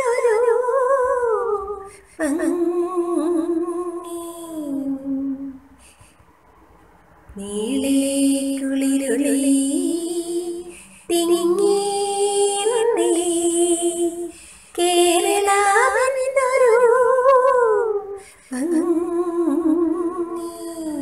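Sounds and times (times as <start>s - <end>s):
woman singing lullaby: 0.0s - 5.6s, 7.4s - 21.0s.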